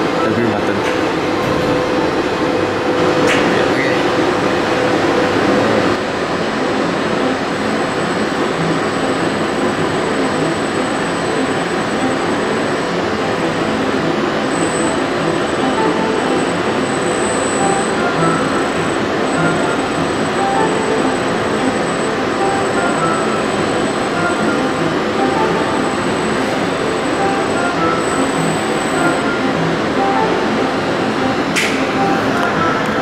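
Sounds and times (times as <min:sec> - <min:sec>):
loud steady machinery noise: 0:00.0 - 0:33.0.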